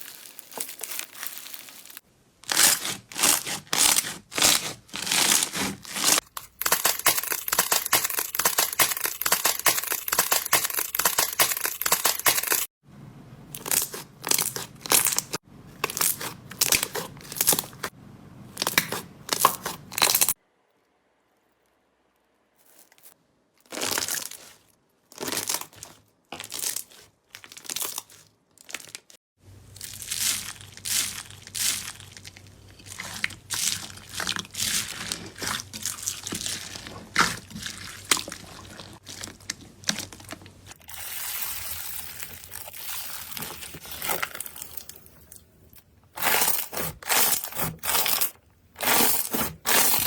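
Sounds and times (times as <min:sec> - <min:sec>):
slime crackling and crunching: 0:00.0 - 0:12.7, 0:13.6 - 0:17.9, 0:18.6 - 0:45.4, 0:46.2 - 0:50.0
slime squishes: 0:00.0 - 0:12.7, 0:13.6 - 0:17.9, 0:18.5 - 0:50.0.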